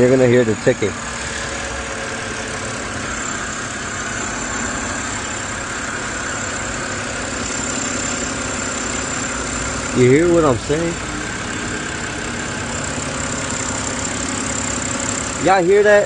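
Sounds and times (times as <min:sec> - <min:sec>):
car engine idling: 0:00.0 - 0:16.0
fast engine ticking: 0:00.0 - 0:16.0.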